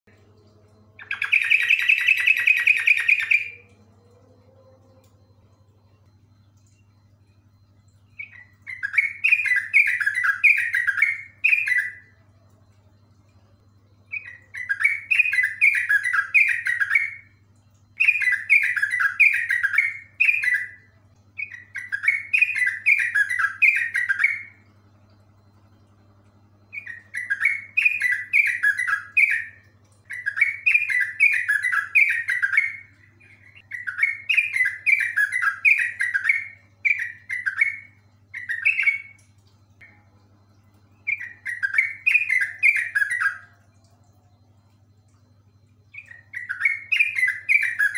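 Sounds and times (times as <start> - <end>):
bird singing bubbly notes: 0.1 - 47.9.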